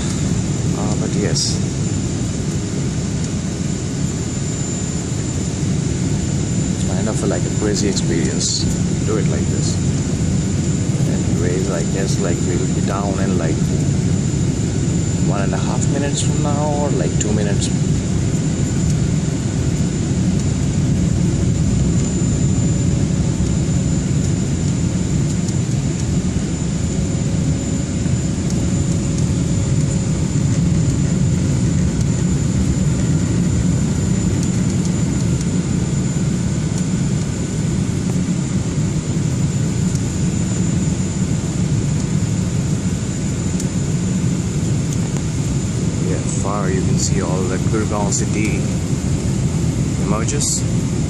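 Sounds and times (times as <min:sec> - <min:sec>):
jet cabin engine and airflow rush: 0:00.0 - 0:51.0
thin high whine: 0:00.0 - 0:51.0.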